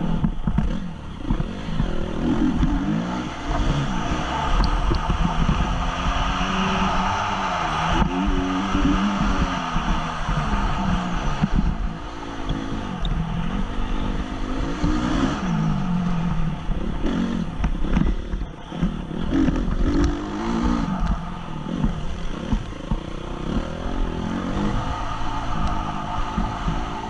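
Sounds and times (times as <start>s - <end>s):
rumble and knocks from rough track: 0.0s - 6.4s, 8.0s - 27.0s
motorcycle engine revving: 0.0s - 27.0s.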